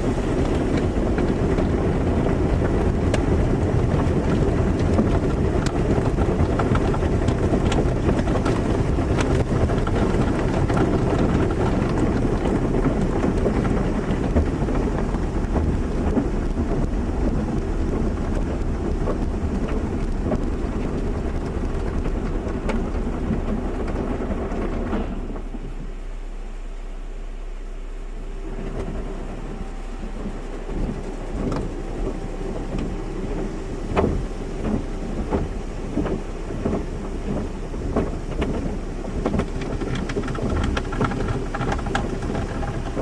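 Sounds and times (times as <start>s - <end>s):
car wash spray and machinery: 0.0s - 43.0s
steady low hum: 0.0s - 43.0s.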